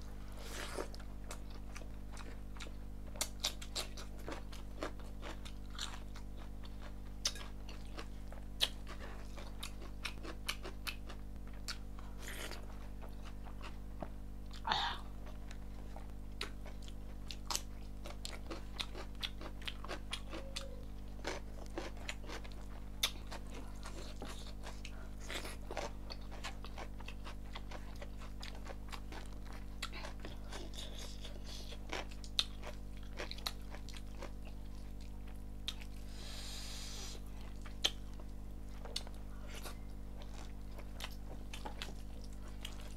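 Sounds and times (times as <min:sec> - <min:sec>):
chewing and wet mouth sounds: 0:00.4 - 0:36.1, 0:37.1 - 0:42.9.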